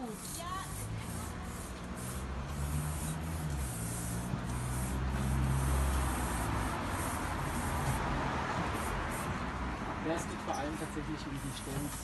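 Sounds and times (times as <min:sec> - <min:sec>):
spray paint can hissing: 0:00.0 - 0:09.4, 0:10.5 - 0:12.0.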